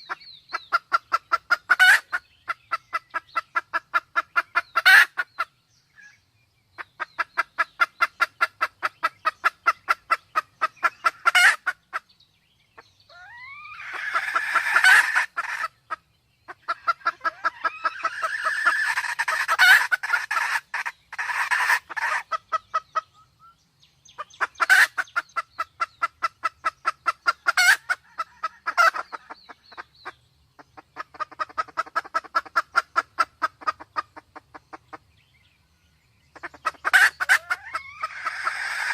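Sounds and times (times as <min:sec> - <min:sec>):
junglefowl clucking: 0:00.0 - 0:06.2, 0:06.8 - 0:12.1, 0:12.8 - 0:23.6, 0:24.2 - 0:35.0, 0:36.3 - 0:38.9.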